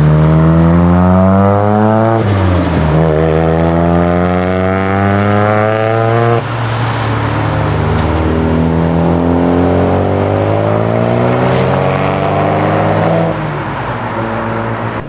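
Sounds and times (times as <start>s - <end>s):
car engine accelerating hard: 0.0s - 15.0s
loud rushing noise: 0.0s - 15.0s.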